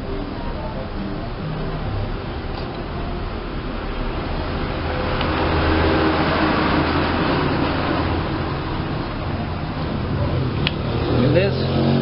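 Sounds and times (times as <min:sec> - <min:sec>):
low rumble and hiss: 0:00.0 - 0:11.8
underlying hum: 0:00.0 - 0:12.0.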